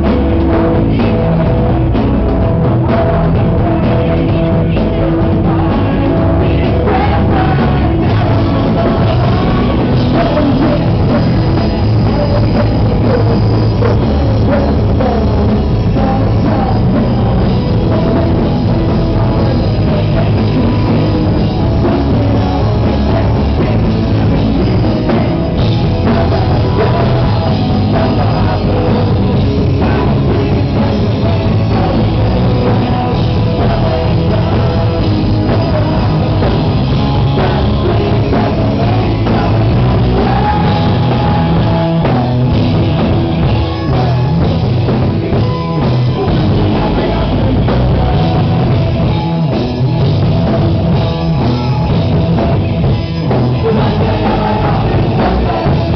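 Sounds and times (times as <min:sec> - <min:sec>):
drum kit beat: 0:00.0 - 0:55.9
rock band playing live: 0:00.0 - 0:55.9.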